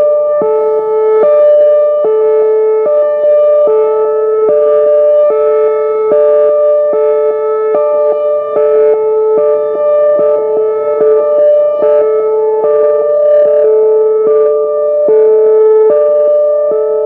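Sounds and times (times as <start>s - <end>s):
hi-lo warning siren: 0.0s - 17.0s.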